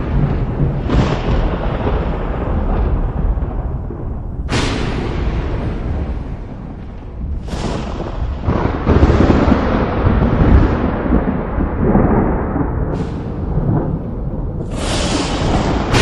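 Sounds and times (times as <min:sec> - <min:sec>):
thunder crack: 0:00.0 - 0:16.0
thunder rumbling: 0:00.0 - 0:16.0.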